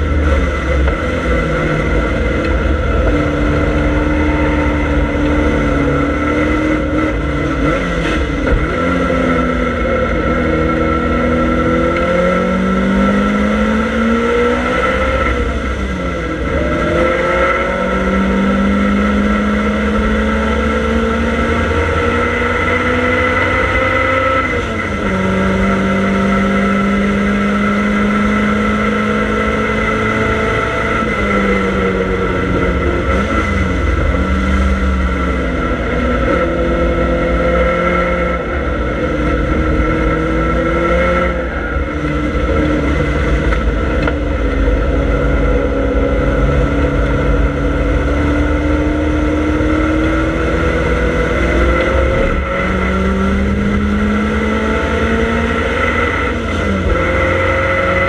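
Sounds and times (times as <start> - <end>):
car engine running hard: 0.0 - 58.0
road and wind rumble: 0.0 - 58.0.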